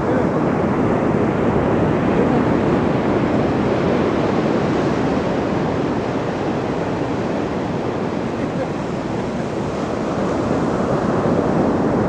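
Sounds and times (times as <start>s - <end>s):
ocean surf breaking on shore: 0.0s - 12.0s.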